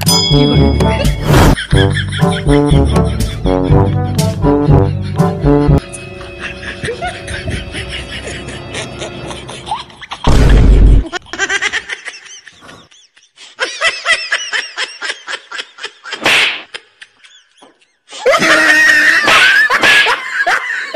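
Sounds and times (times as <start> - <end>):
people laughing: 1.5 - 20.9.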